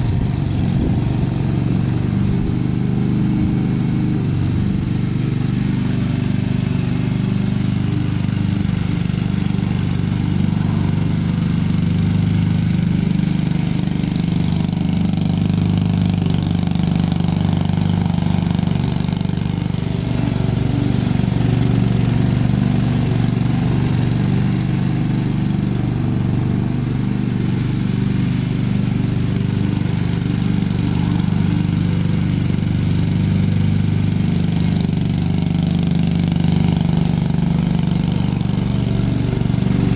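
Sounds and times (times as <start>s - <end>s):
riding lawn mower engine running: 0.0s - 39.9s.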